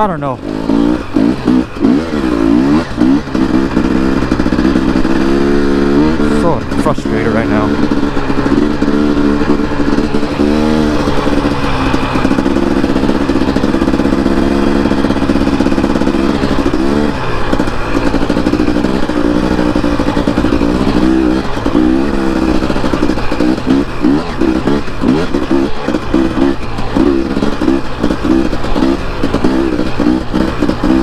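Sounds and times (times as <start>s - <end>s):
dirt bike engine: 0.0s - 31.0s.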